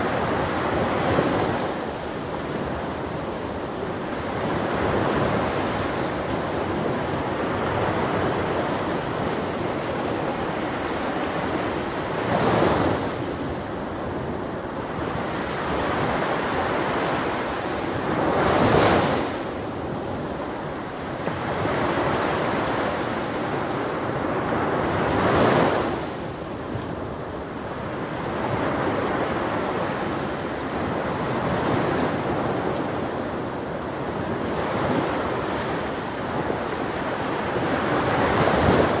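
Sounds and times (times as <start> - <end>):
ocean surf rushing: 0.0 - 39.0.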